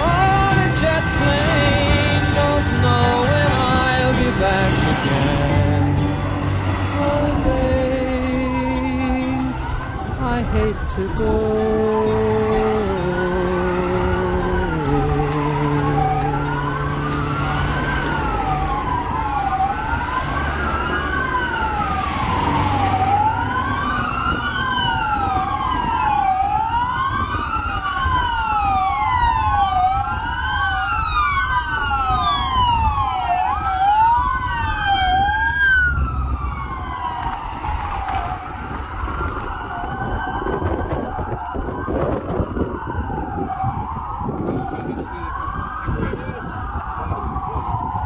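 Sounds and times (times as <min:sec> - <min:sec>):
passing cars rumble: 0:00.0 - 0:48.0
police sirens wailing: 0:00.0 - 0:48.0.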